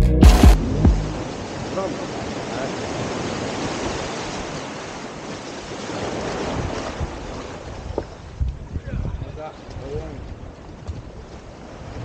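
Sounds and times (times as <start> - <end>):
waves breaking on a beach: 1.2 - 12.0.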